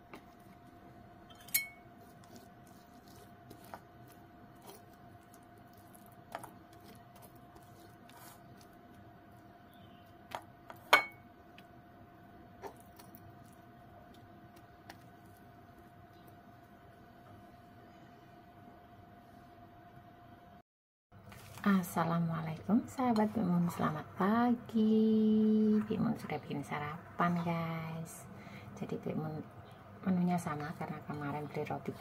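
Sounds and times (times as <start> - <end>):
faint steady hum: 0.0 - 20.6, 21.2 - 32.0.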